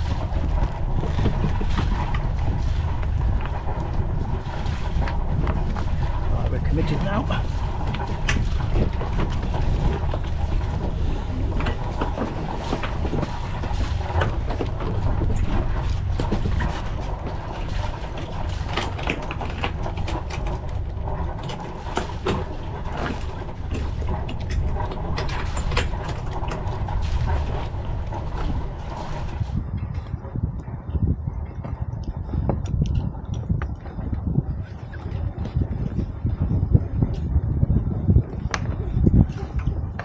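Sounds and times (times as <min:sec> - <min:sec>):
low rumble: 0:00.0 - 0:40.0.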